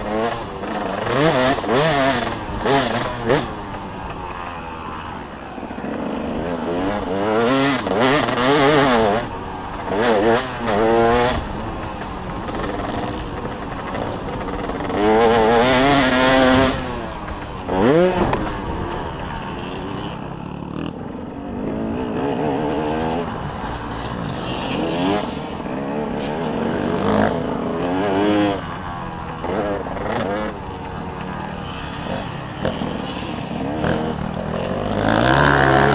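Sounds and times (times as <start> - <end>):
dirt bike engines revving: 0.0 - 35.9.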